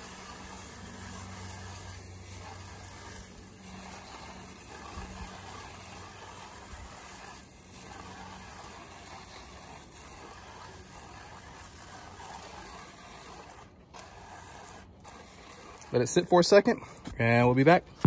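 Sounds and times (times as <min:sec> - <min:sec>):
sprayer nozzle hissing: 0:00.0 - 0:16.4.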